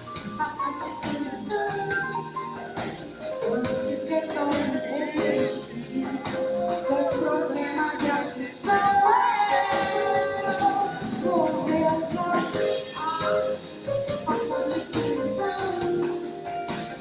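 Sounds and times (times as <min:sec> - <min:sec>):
drums keeping a beat: 0:00.0 - 0:17.0
live band playing: 0:00.0 - 0:17.0
person singing: 0:00.0 - 0:17.0.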